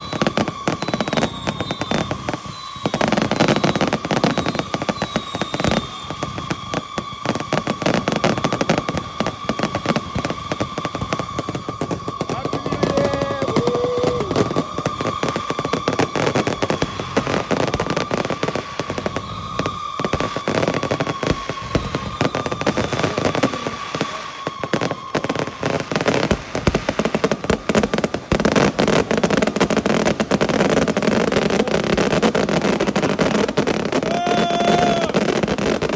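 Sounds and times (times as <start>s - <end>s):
fireworks firing rapid shots: 0.0s - 35.9s.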